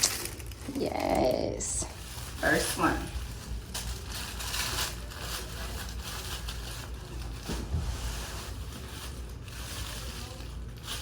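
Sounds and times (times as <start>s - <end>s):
packaging crackles: 0.0s - 11.0s
packaging rustling: 0.0s - 11.0s.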